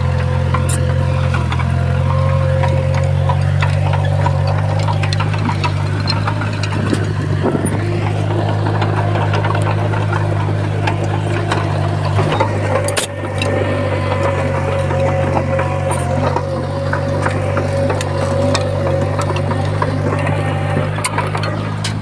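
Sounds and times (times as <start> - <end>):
bulldozer diesel engine running: 0.0 - 22.0
metal clanks and rattles: 0.0 - 22.0.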